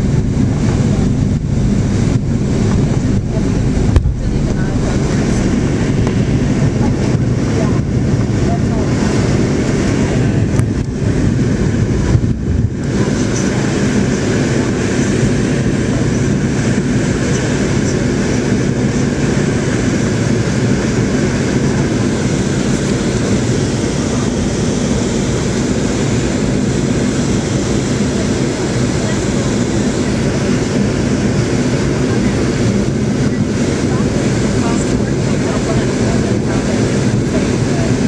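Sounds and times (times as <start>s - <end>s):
jet engine cabin roar: 0.0s - 38.0s.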